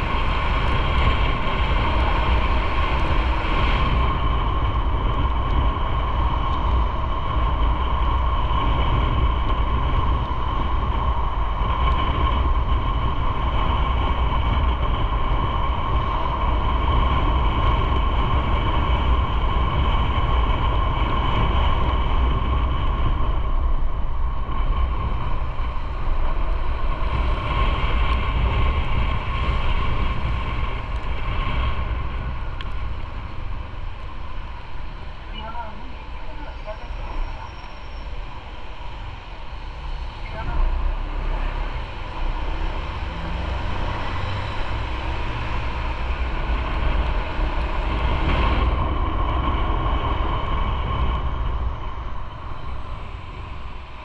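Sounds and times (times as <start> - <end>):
motorcycle engine drone: 0.0 - 54.0
wind rushing over microphone: 0.0 - 54.0.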